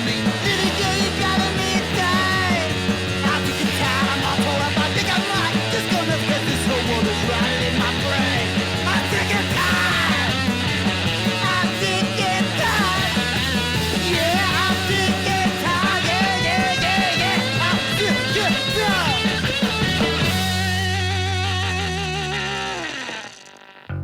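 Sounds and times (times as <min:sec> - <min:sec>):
garage punk band playing: 0:00.0 - 0:24.0.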